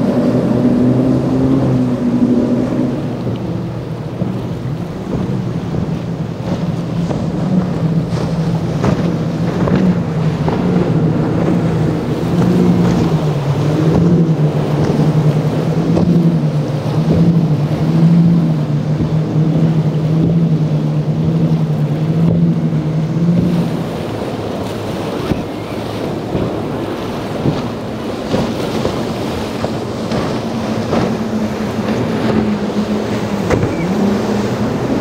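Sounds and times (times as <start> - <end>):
outboard engine drone: 0.0 - 35.0
wind on microphone: 0.0 - 35.0.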